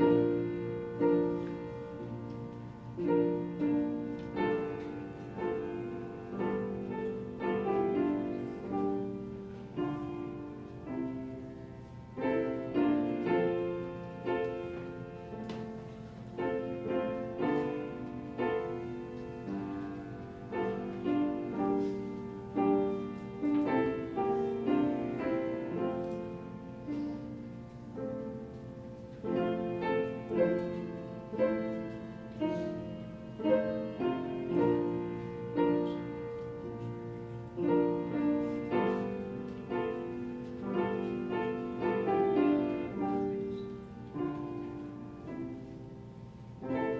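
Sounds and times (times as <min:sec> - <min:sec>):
slow solo piano piece: 0:00.0 - 0:46.9.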